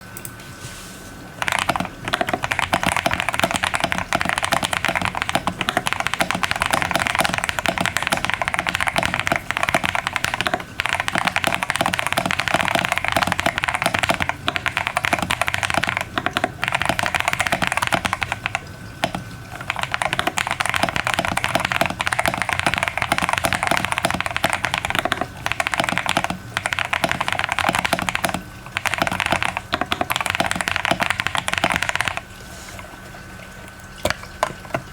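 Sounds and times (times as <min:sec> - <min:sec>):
mechanical keyboard typing: 0:01.4 - 0:32.3.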